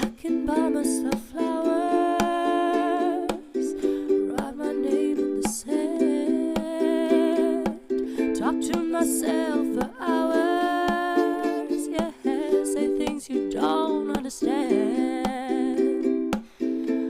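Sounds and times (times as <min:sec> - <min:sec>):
ukulele strumming: 0:00.0 - 0:17.0.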